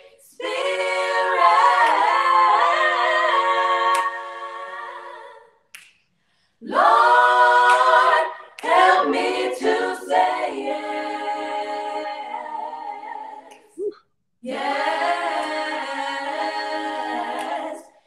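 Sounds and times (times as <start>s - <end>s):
group singing a cappella: 0.0s - 13.8s, 14.4s - 18.0s.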